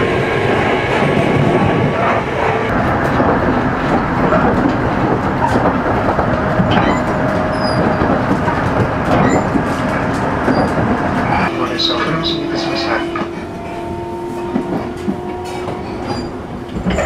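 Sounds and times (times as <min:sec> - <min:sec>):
train wheels rumbling on rail: 0:00.0 - 0:17.0
clack over rail joints: 0:00.4 - 0:17.0.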